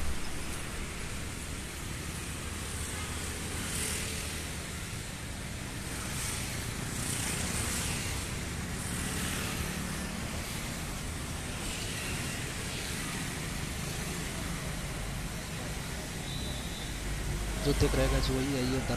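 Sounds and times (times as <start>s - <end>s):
passing vehicles hiss: 0.0s - 18.9s
road traffic rumble: 0.0s - 18.9s.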